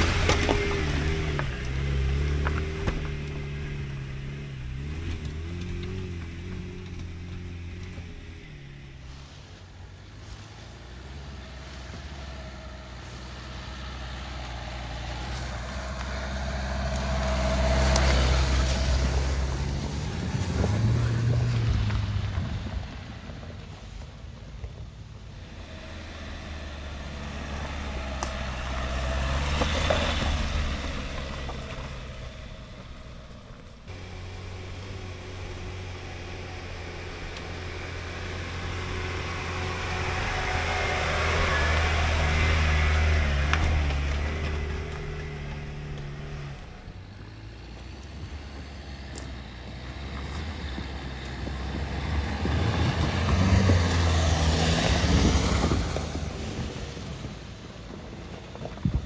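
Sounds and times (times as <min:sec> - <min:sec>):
diesel engine pulling away: 0:00.0 - 0:59.0
petrol car engine running: 0:00.0 - 0:59.0.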